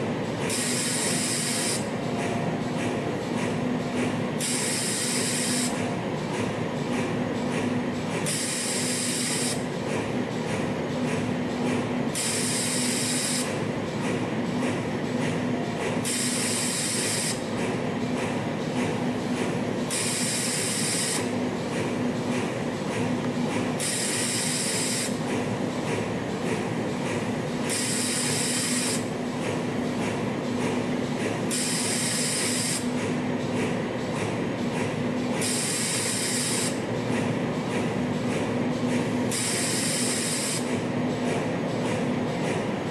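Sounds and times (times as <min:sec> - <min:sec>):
spring coiling machine humming: 0:00.0 - 0:42.9.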